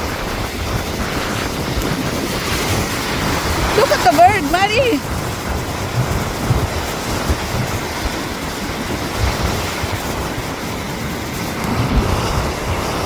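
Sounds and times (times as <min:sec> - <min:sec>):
sea surf: 0:00.0 - 0:13.0
strong wind buffeting microphone: 0:00.0 - 0:13.0.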